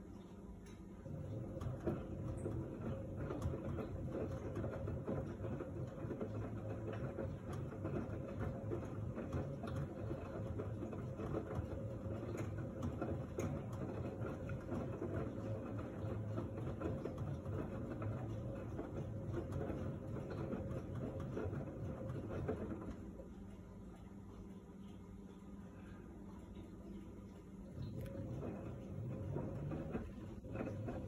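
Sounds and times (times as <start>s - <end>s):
washing machine hum: 0.0s - 31.0s
laundry sloshing and tumbling: 1.0s - 23.1s, 27.7s - 31.0s.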